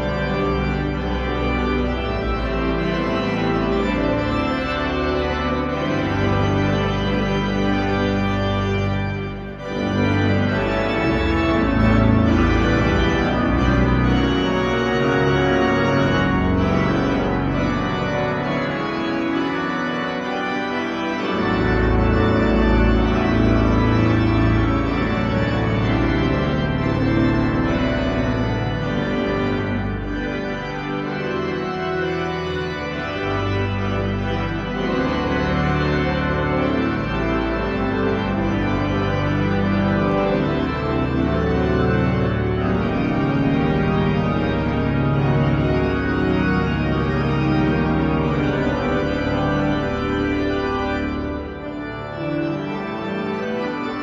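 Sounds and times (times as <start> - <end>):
deep organ pedal bass: 0.0 - 54.0
pipe organ chords: 0.0 - 54.0.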